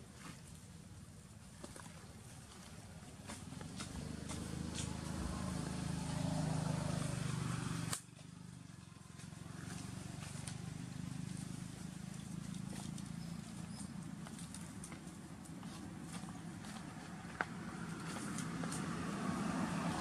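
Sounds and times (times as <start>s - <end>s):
distant motor engine hum: 0.0s - 20.0s.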